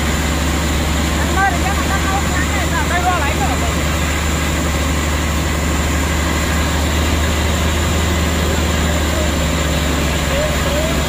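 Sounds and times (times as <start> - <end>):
heavy vehicle engine droning: 0.0 - 11.0
rushing water: 0.0 - 11.0.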